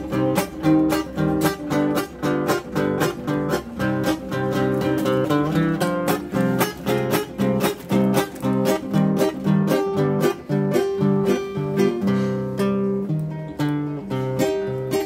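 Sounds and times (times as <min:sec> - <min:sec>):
classical guitar strummed chords: 0:00.0 - 0:15.0.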